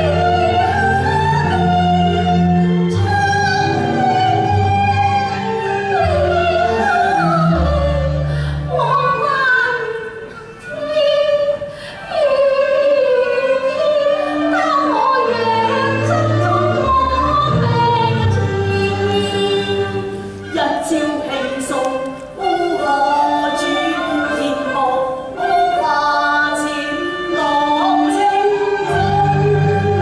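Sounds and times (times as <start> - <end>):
instrumental accompaniment: 0.0 - 30.0
woman singing opera: 0.0 - 30.0.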